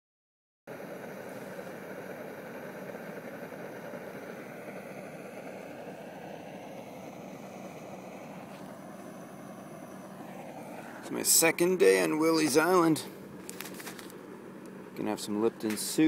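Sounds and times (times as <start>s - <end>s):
steady engine drone: 0.7s - 16.0s.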